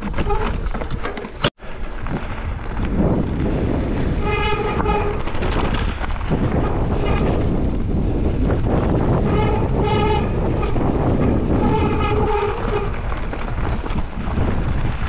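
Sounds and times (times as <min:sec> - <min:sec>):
mountain bike rumbling on trail: 0:00.0 - 0:15.0
wind buffeting microphone: 0:01.7 - 0:15.0.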